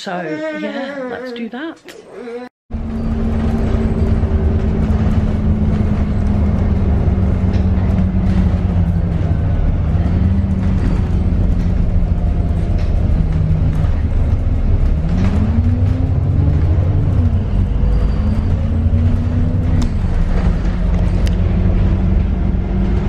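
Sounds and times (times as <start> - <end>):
bus engine rumbling: 2.7 - 23.0.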